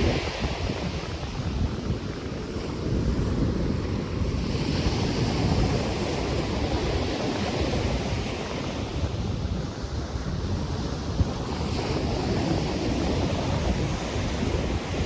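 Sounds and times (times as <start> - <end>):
ocean surf washing ashore: 0.0 - 15.0
wind buffeting microphone: 0.0 - 15.0
wind rustling palm fronds: 0.0 - 15.0.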